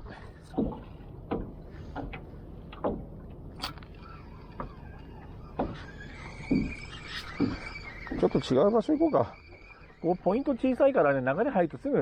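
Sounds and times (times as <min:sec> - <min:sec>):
knocks and clunks on a boat: 0:00.0 - 0:12.0.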